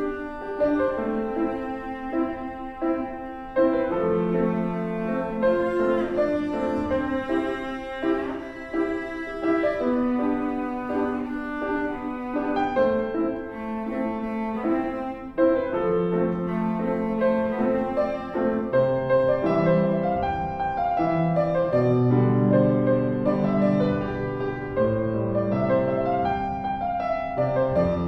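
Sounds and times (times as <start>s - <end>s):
cello: 0.0s - 28.0s
piano: 0.0s - 28.0s.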